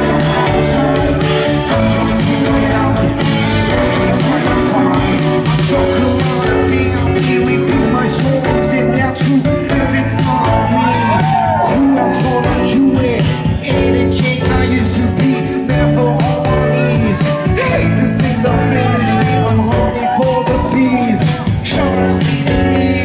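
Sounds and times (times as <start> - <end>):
drums: 0.0 - 23.0
electric guitar: 0.0 - 23.0
keyboards: 0.0 - 23.0
person singing into microphone: 0.0 - 23.0.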